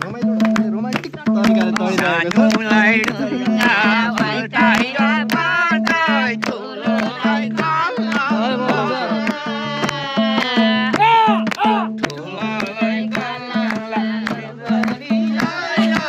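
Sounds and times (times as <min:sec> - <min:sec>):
person singing folk song: 0:00.0 - 0:16.0.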